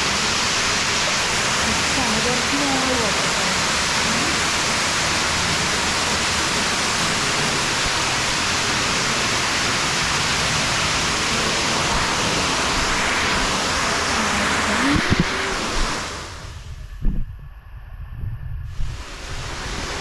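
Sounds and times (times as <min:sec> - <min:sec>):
waterfall rushing: 0:00.0 - 0:16.5, 0:18.9 - 0:20.0.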